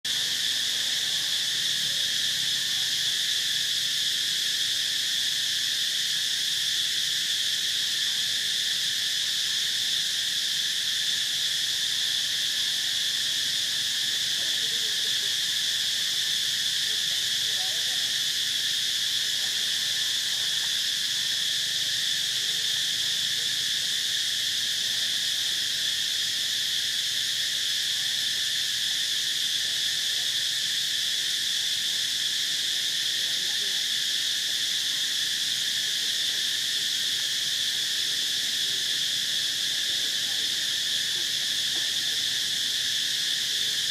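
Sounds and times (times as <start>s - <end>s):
insect chorus drone: 0.0s - 43.9s.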